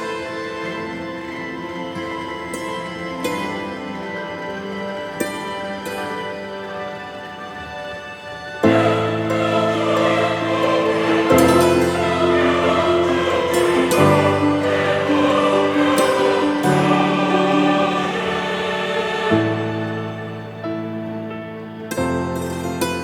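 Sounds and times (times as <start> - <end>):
slow choral chords with voices: 0.0 - 23.0.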